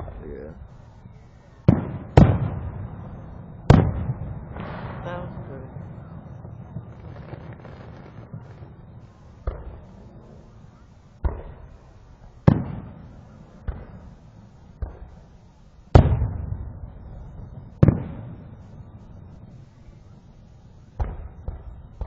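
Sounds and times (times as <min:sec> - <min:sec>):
fireworks bangs echoing: 0:00.0 - 0:22.0.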